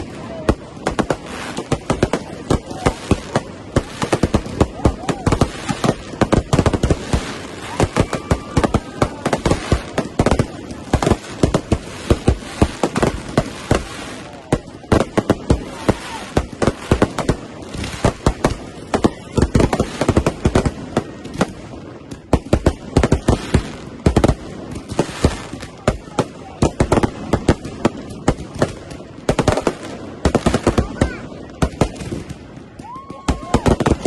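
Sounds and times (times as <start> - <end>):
fireworks and firecrackers banging: 0.0 - 34.0.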